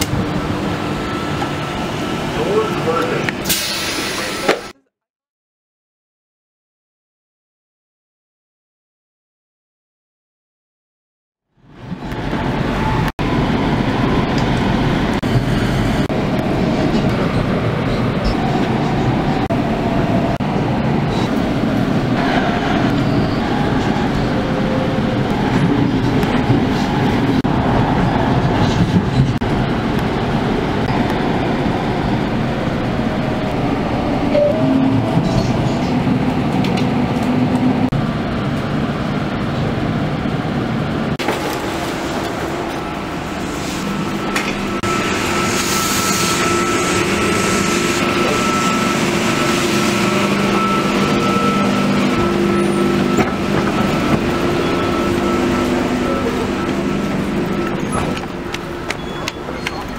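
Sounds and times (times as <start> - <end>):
train wheels rumbling on track: 0.0 - 4.7, 11.7 - 59.9.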